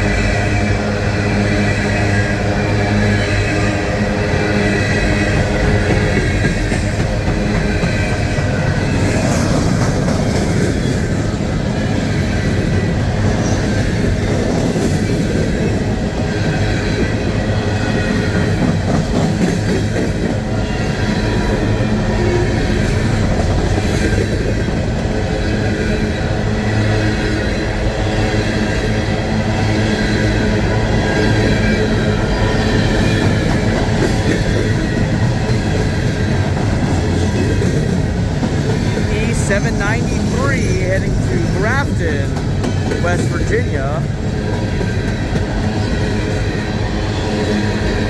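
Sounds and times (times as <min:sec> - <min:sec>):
train wheels rumbling and clattering: 0:00.0 - 0:40.4, 0:44.0 - 0:48.0.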